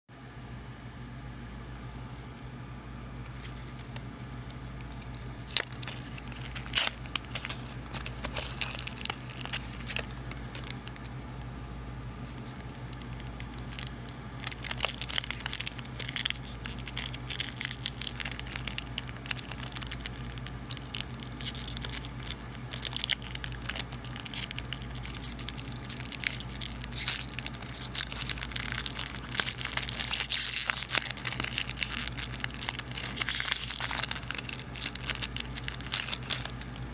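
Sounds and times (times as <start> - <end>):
low hum: 0.2 - 36.9
foil wrapper crinkling: 3.3 - 11.2, 12.3 - 36.9.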